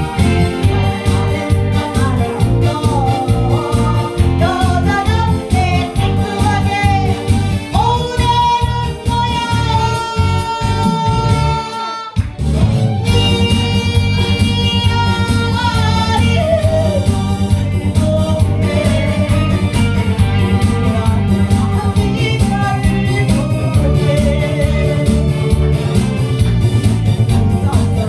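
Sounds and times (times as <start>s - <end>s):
woman singing into microphone: 0.0s - 12.2s, 13.0s - 26.2s, 27.2s - 28.0s
music with steady beat: 0.0s - 28.0s.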